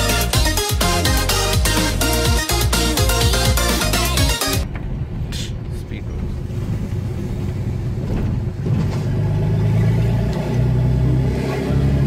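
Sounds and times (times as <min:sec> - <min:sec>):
diesel truck engine: 0:00.0 - 0:12.0.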